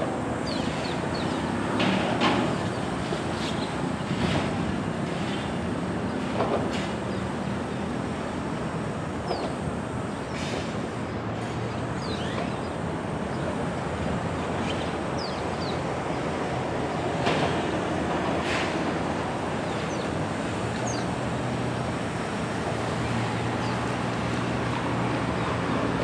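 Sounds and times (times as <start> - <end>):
diesel locomotive drone: 0.0 - 26.0
train cars clanking: 0.0 - 26.0
wheels rumbling on rail: 0.0 - 26.0.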